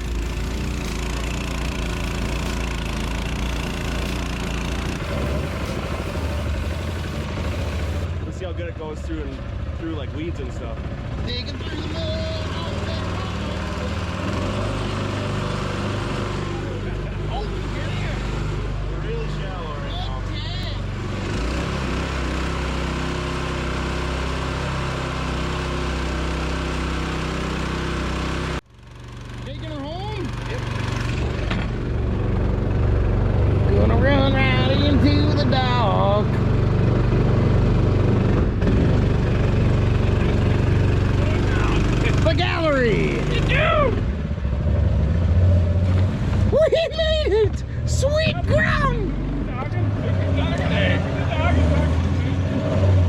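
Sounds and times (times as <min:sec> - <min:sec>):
small boat engine running: 0:00.0 - 0:20.3, 0:20.9 - 0:46.6.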